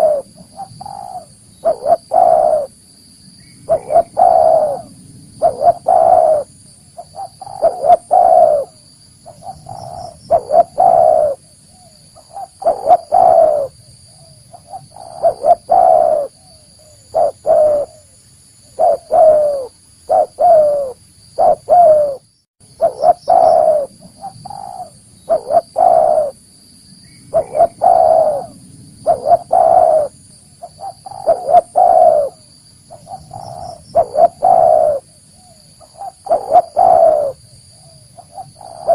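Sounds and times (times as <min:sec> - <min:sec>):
dove cooing: 0:00.0 - 0:02.8, 0:03.6 - 0:26.4, 0:27.3 - 0:38.9.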